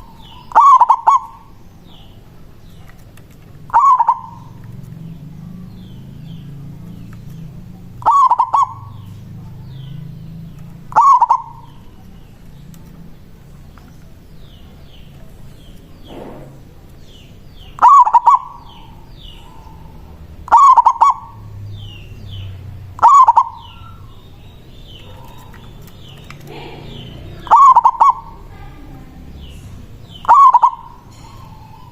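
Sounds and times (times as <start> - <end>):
dove cooing song: 0.0 - 31.9
small birds chirping: 0.0 - 31.9.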